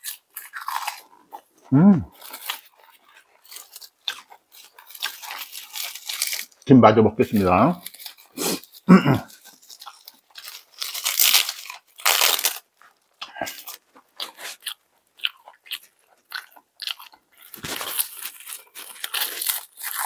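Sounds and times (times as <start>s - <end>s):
crunching while chewing: 0.0s - 20.0s.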